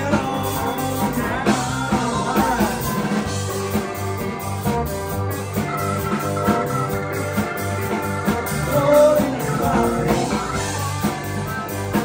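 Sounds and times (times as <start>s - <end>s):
drums: 0.0s - 12.0s
electric guitars: 0.0s - 12.0s
keyboard: 0.0s - 12.0s.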